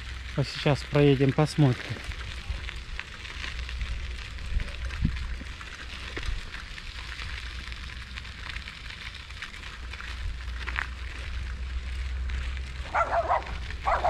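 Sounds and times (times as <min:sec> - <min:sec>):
steady low rumble: 0:00.0 - 0:14.0
tyres crunching on gravel: 0:00.0 - 0:14.0.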